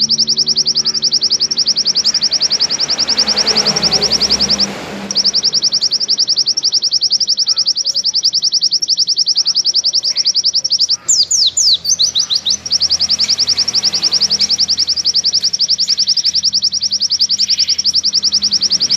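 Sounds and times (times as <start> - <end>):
bird downward-sweeping notes: 0.0 - 18.9
bird singing fast trill: 0.0 - 18.9.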